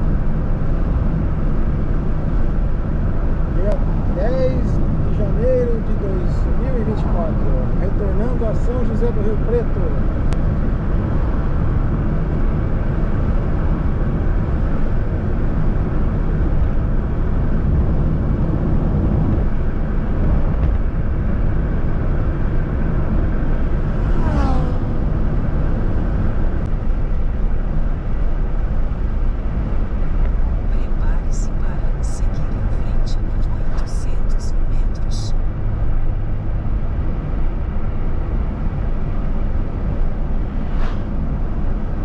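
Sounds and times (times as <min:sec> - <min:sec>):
car driving on highway: 0:00.0 - 0:42.0.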